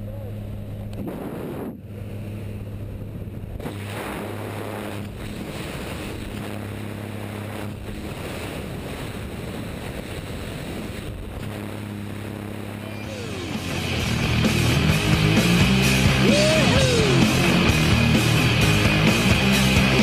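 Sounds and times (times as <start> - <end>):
airplane engine and propeller drone: 0.0 - 20.0.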